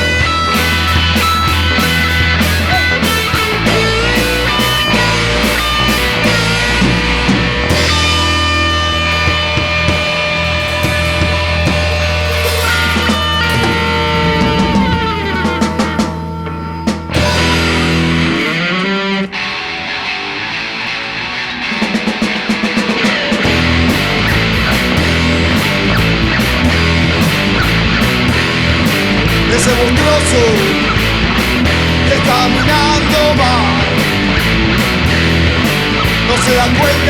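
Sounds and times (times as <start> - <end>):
drum and cymbal hits: 0.0 - 18.6, 21.8 - 37.0
steady bass: 0.0 - 18.9, 23.4 - 37.0
electric guitar lines: 0.0 - 37.0.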